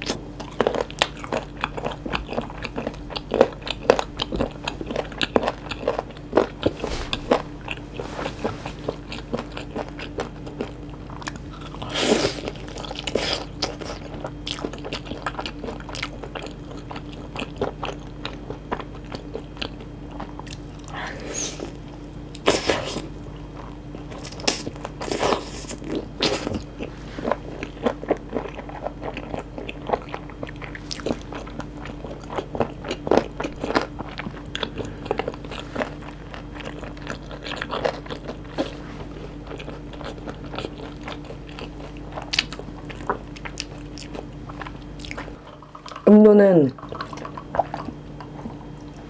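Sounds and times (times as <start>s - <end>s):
crunchy chewing of fried chicken: 0.0s - 46.2s, 46.8s - 49.0s.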